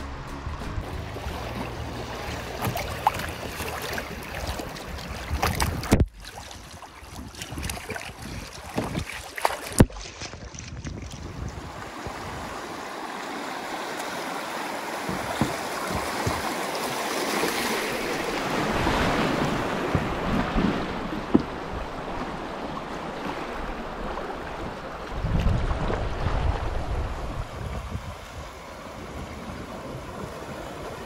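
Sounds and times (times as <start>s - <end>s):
river water rushing: 0.0s - 10.4s, 11.6s - 31.0s
wind buffeting microphone: 0.0s - 12.8s, 15.0s - 16.7s, 17.8s - 31.0s.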